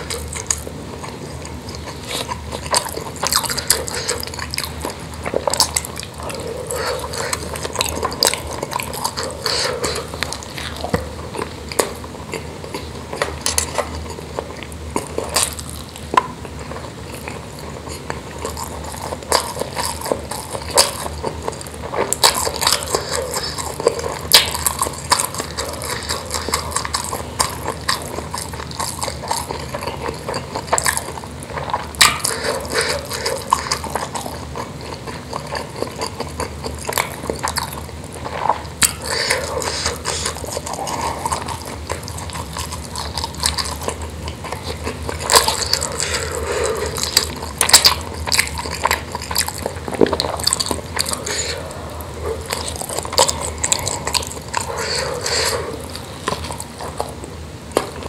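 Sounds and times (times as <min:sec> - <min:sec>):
wet chewing and lip smacking: 0:00.0 - 0:58.0.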